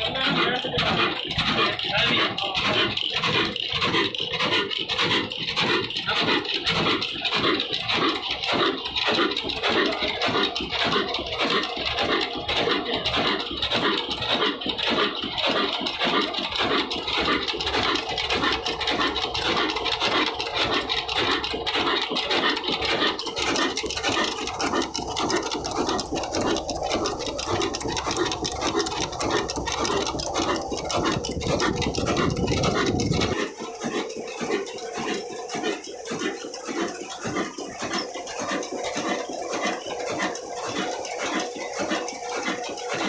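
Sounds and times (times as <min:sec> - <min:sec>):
diesel engine rhythmic beat: 0:00.0 - 0:43.0.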